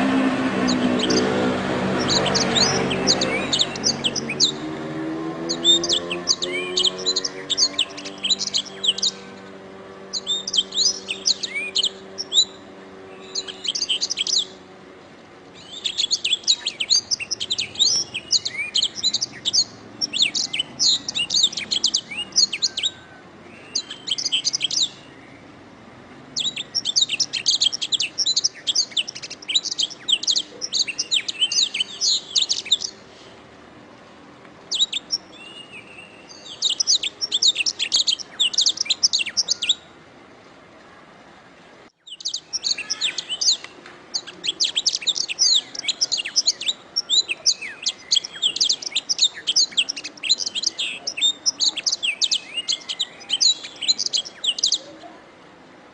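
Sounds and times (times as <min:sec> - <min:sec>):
canary singing trills: 0:00.0 - 0:14.8, 0:15.5 - 0:25.6, 0:26.3 - 0:33.2, 0:34.7 - 0:39.9, 0:42.0 - 0:55.2.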